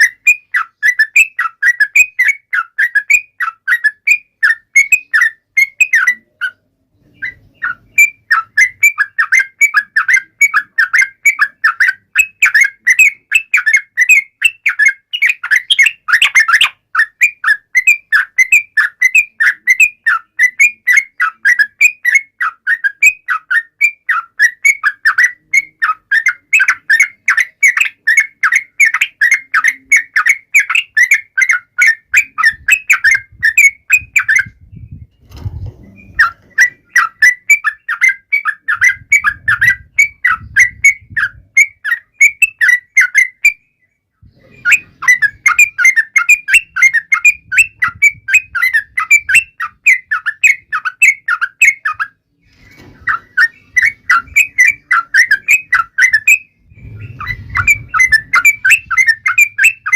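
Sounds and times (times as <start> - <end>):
bird singing rapid chirps: 0.0 - 35.0, 35.8 - 59.9.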